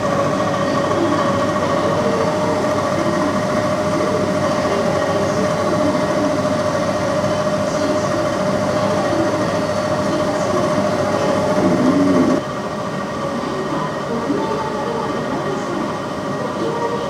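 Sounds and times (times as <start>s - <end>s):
air conditioner mechanical drone: 0.0s - 17.0s.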